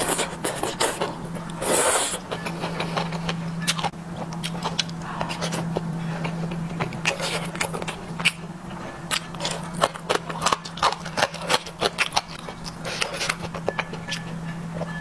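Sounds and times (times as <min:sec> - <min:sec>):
chewing noodles with mouth clicks: 0:00.0 - 0:15.0
steady low hum: 0:00.0 - 0:15.0.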